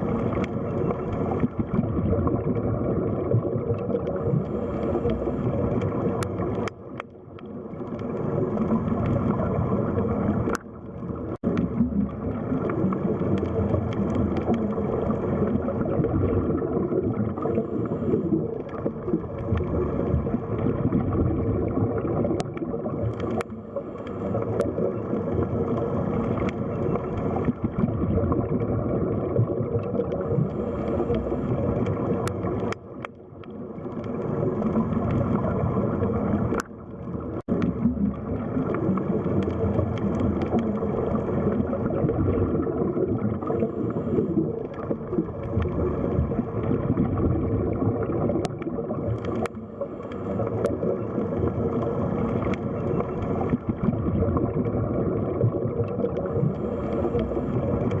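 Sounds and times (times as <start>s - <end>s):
faint underwater clicks: 0.0s - 58.0s
underwater rumble and gurgle: 0.0s - 58.0s.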